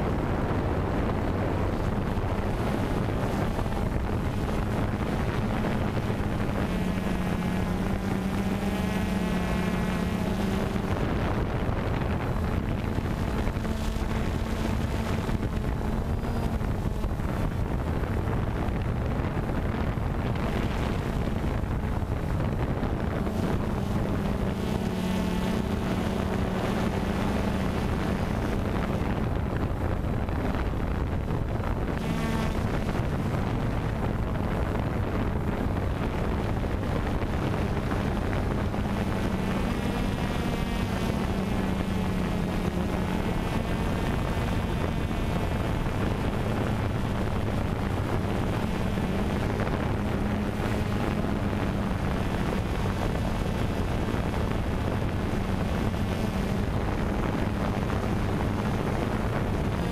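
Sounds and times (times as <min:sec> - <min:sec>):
drone propellers humming: 0:00.0 - 0:59.9
wind on microphone: 0:00.0 - 0:59.9.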